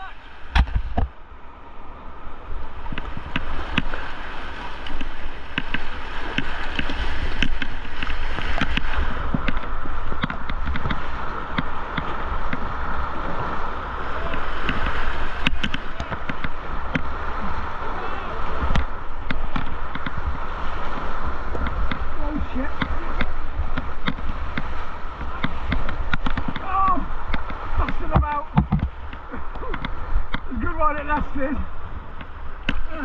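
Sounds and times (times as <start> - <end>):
paddle splashes and knocks: 0.0 - 1.2, 2.6 - 33.0
river water rushing: 0.0 - 33.0
wind rumble on microphone: 0.0 - 33.0.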